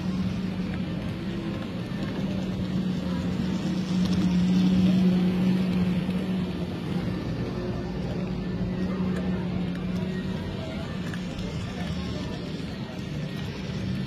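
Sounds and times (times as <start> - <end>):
constant low hum: 0.0 - 14.0
model train cars rumbling on track: 0.0 - 14.0.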